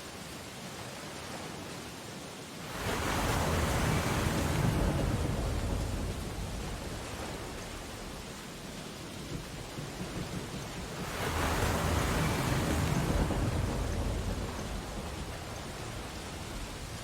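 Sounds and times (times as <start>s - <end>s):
ocean waves washing: 0.0s - 17.0s
wave breaking: 2.7s - 17.0s.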